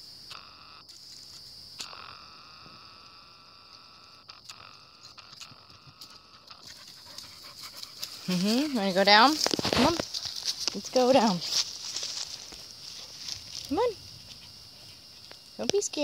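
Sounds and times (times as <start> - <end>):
insects buzzing: 0.0 - 16.0
lower pitched insect call: 0.0 - 16.0.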